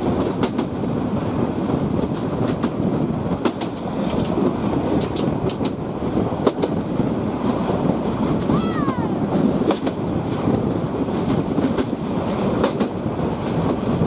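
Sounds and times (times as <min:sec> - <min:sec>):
train rumble on track: 0:00.0 - 0:14.0
wheels clicking over rail joints: 0:00.0 - 0:14.0.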